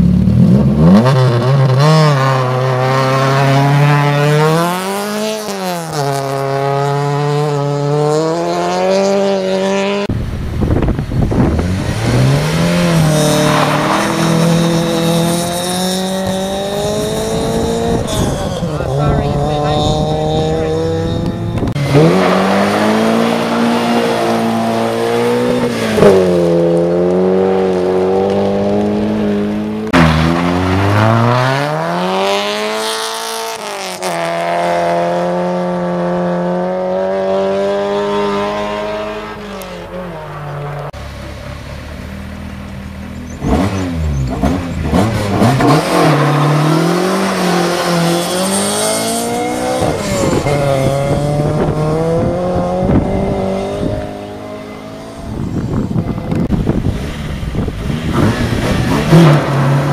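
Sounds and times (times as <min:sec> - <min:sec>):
car engines accelerating hard: 0:00.0 - 0:59.9.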